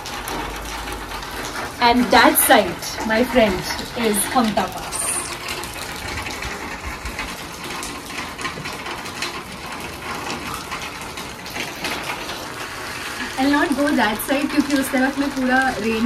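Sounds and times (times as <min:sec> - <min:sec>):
rain falling: 0:00.0 - 0:16.0
running water: 0:00.0 - 0:16.0.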